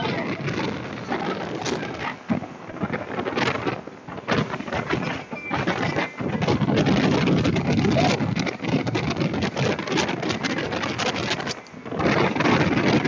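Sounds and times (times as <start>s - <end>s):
rushing water: 0.0s - 13.0s
speedboat motor: 0.0s - 13.0s
wind buffeting microphone: 0.0s - 13.0s.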